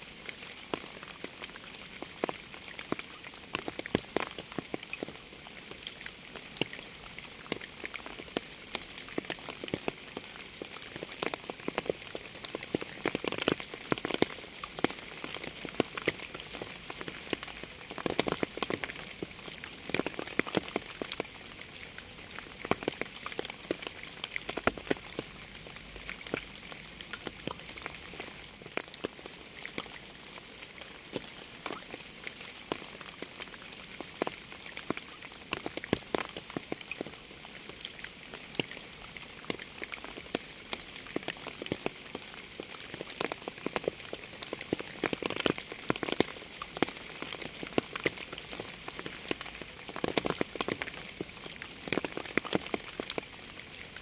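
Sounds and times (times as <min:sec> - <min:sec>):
rain hiss: 0:00.0 - 0:54.0
raindrops striking close by: 0:00.0 - 0:54.0.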